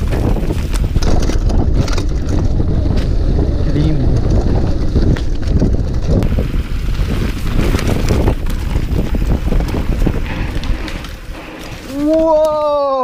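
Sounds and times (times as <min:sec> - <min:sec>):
bike clicks and rattles: 0:00.0 - 0:13.0
bike tyres rumbling on dirt: 0:00.0 - 0:13.0
wind buffeting microphone: 0:00.0 - 0:13.0.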